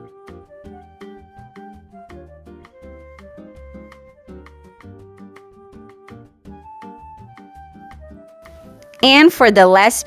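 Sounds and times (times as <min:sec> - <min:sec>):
light instrumental music with beat: 0:00.0 - 0:08.9.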